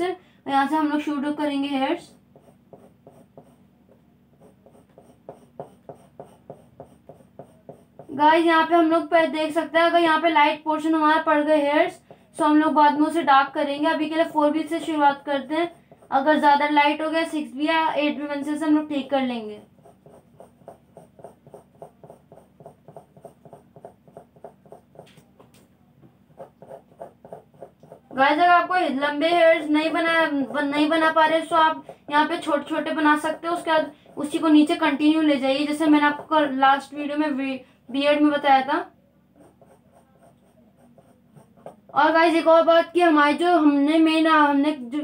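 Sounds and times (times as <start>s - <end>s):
pencil strokes on paper: 0.8s - 9.0s, 10.9s - 25.3s, 26.3s - 37.3s, 39.3s - 42.5s.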